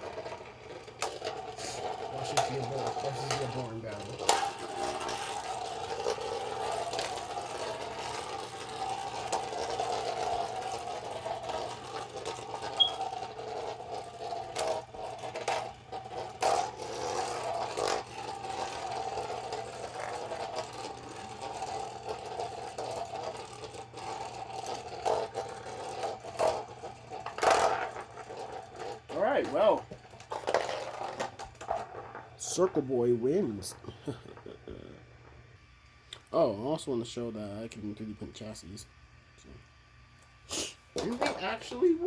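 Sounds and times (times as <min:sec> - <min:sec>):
spinning tops clacking together: 0:00.0 - 0:34.6
spinning tops whirring: 0:00.0 - 0:35.7.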